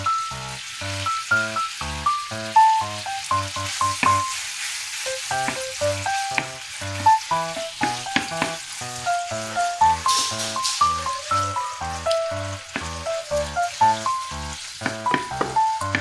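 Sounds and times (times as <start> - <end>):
background music with bass: 0.0 - 4.2, 5.1 - 16.0
beef sizzling in frying pan: 0.0 - 16.0.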